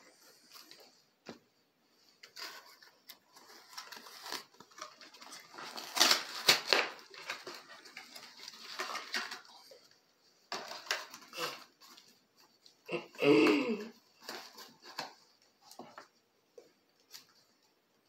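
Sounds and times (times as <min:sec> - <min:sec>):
plastic wrap and cardboard crinkling: 0:00.0 - 0:18.0.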